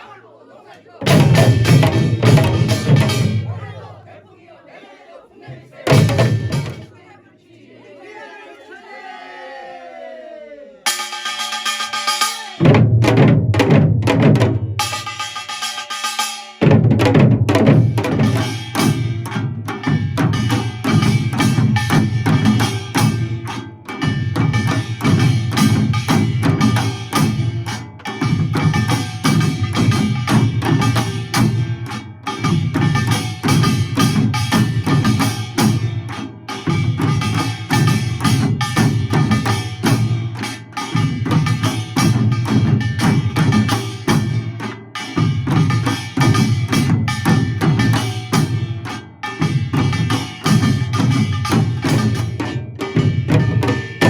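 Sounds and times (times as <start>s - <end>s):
fast dense drumming: 1.0s - 4.2s, 5.4s - 7.1s, 12.5s - 15.2s, 16.6s - 54.0s.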